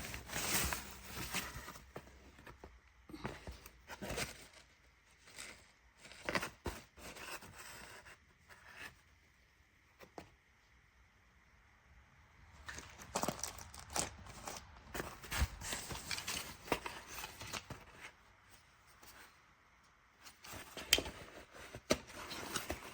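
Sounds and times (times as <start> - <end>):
rustling and scraping handling noise: 0.0 - 10.8, 12.6 - 22.9.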